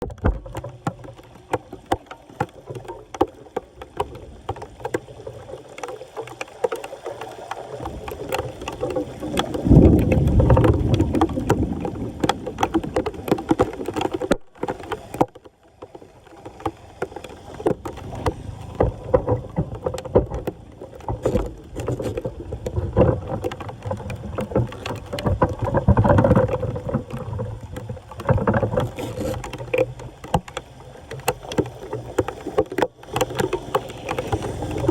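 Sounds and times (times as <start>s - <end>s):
floodwater splashing and sloshing: 0.0s - 34.9s
sharp knocks and scrapes: 5.9s - 34.9s.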